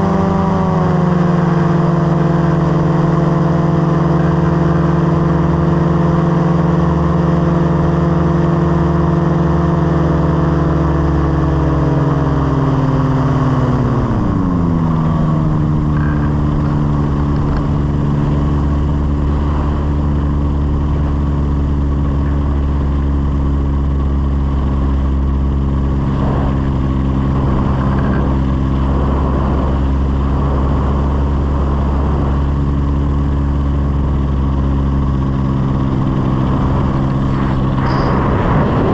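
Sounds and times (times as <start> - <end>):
light aircraft piston engine: 0.0 - 38.9.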